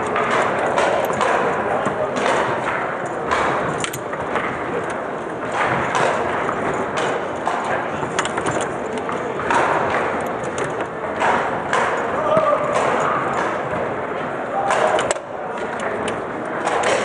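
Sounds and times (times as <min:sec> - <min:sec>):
murmur of spectators: 0:00.0 - 0:17.0.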